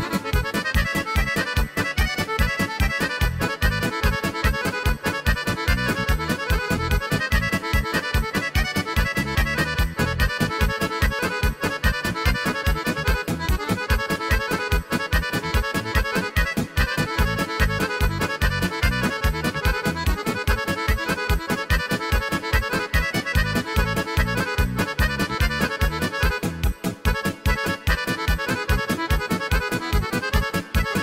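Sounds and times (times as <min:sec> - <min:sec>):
accordion music with fast beat: 0:00.0 - 0:31.0.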